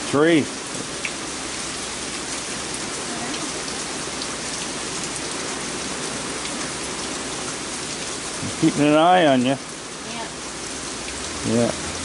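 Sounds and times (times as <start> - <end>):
heavy rain pouring: 0.0 - 12.0
raindrop ticks: 0.6 - 10.3, 10.9 - 11.8.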